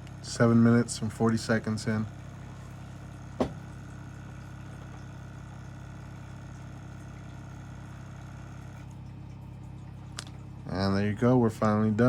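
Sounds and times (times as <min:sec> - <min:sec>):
electric ball pump humming: 0:00.0 - 0:12.0.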